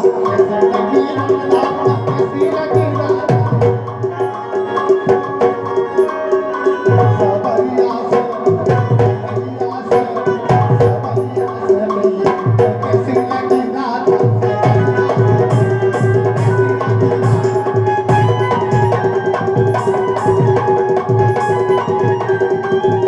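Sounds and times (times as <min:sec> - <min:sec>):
deep drum beats: 0:00.0 - 0:04.4, 0:06.8 - 0:23.0
fast drum rhythm: 0:00.0 - 0:23.0
sharp clicking percussion: 0:00.0 - 0:23.0
steady held tones: 0:00.0 - 0:23.0.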